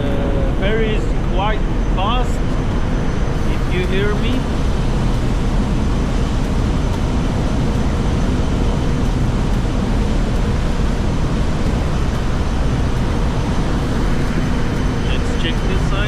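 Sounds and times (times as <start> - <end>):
ferry rumbling rush: 0.0 - 16.0.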